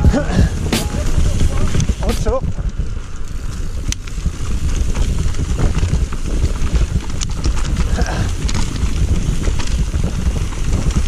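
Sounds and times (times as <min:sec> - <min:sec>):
rumble of tyres and wind: 0:00.0 - 0:11.0
bike clattering over stones: 0:00.1 - 0:11.0.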